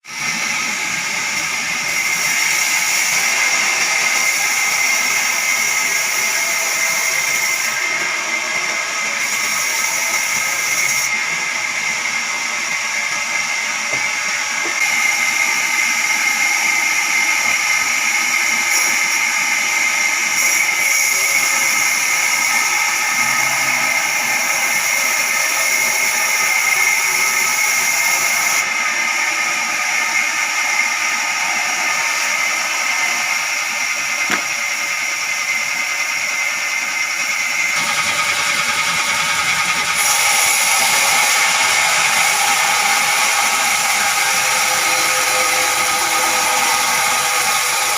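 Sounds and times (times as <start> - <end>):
wood-cutting machinery whining: 0.0 - 47.9.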